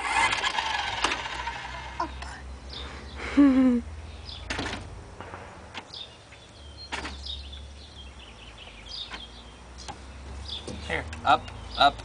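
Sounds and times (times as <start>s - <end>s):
small birds chirping: 1.3s - 12.0s.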